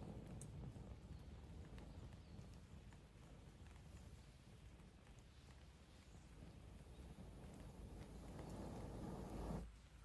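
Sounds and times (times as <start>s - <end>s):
campfire crackling pops: 0.0s - 9.6s
low fire rumble: 0.0s - 9.8s.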